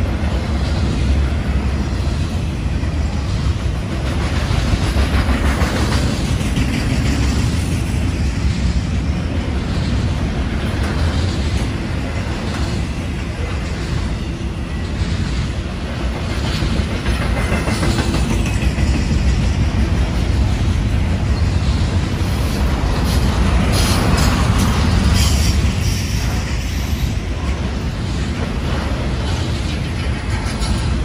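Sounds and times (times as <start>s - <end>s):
freight train wheels rolling on rails: 0.0s - 31.0s.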